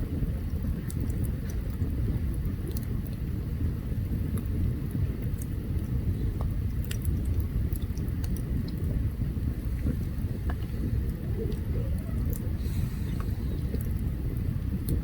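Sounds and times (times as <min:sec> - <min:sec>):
campfire crackling: 0:00.0 - 0:15.0
steady low rumble: 0:00.0 - 0:15.0.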